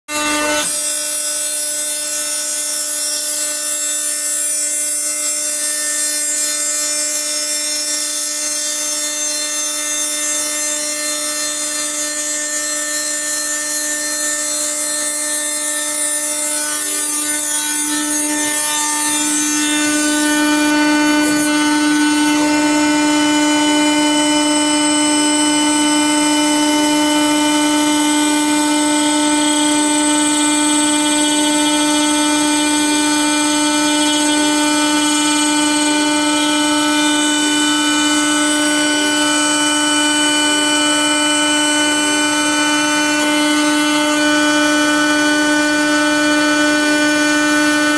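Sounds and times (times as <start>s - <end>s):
cutter hissing in material: 0.1s - 47.9s
router spindle whine: 0.1s - 47.9s.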